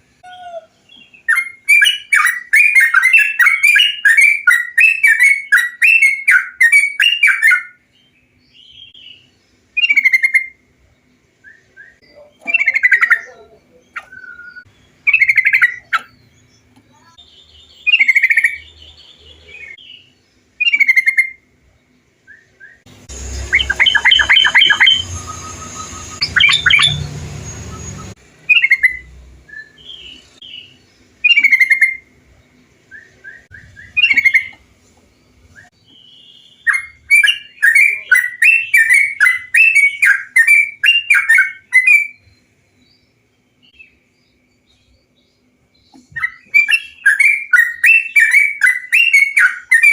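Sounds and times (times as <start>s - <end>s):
background hum: 0.0s - 49.9s
bulbul song: 0.0s - 49.9s.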